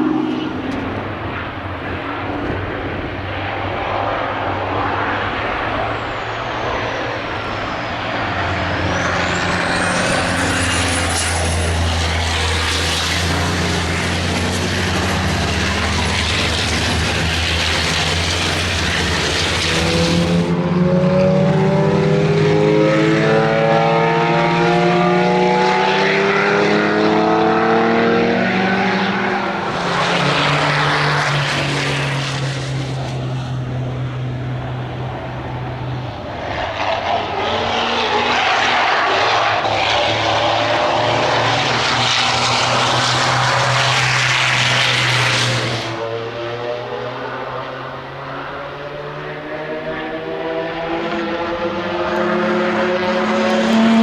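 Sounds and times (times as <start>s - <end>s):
racing car engines: 0.0s - 54.0s.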